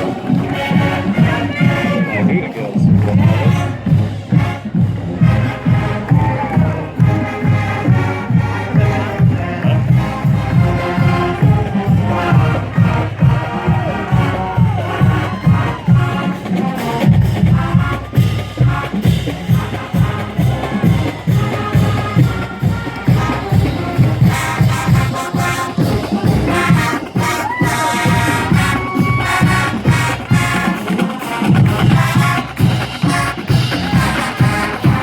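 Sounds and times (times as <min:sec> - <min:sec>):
brass melody: 0:00.0 - 0:35.0
steady drum beat: 0:00.0 - 0:35.0.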